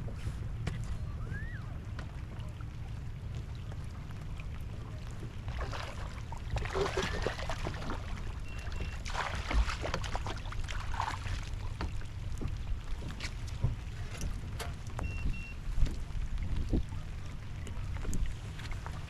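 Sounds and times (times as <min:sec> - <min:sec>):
water sloshing and splashing: 0:00.0 - 0:19.0
wind rumble on microphone: 0:00.0 - 0:19.0.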